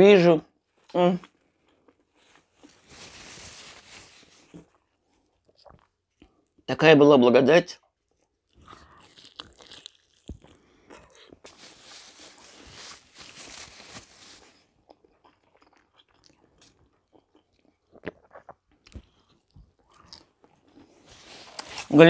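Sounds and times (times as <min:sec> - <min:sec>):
chewing and crunching food: 0:00.8 - 0:06.7, 0:07.8 - 0:22.0.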